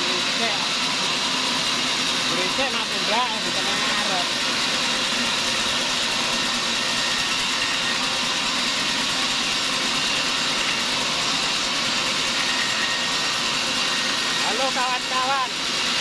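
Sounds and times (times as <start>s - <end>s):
saw cutting through log: 0.0s - 16.0s.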